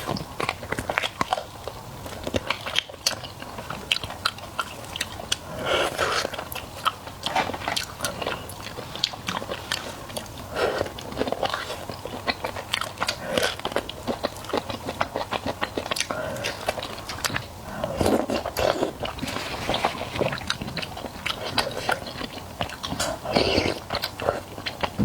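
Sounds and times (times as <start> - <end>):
person biting and chewing food: 2.2 - 25.0.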